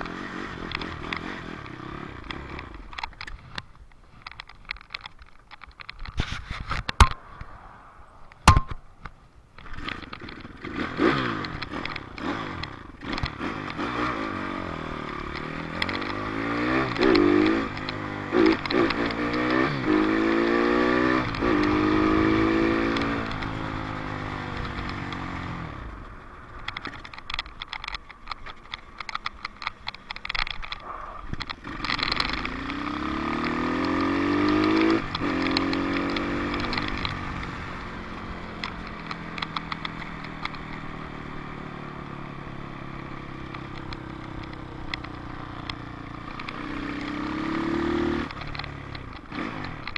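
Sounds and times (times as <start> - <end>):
dirt bike engine accelerating: 6.5 - 49.9.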